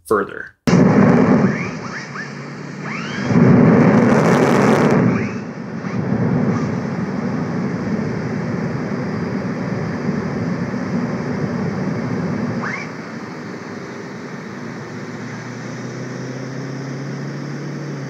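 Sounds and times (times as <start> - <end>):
jet engines rumbling: 0.7 - 18.0.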